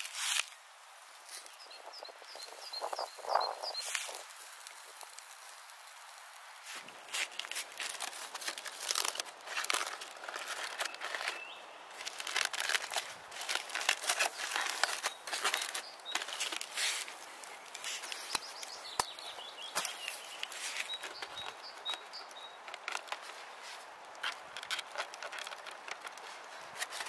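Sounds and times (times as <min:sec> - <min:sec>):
crinkling and rustling: 0:00.0 - 0:00.6, 0:01.2 - 0:27.0.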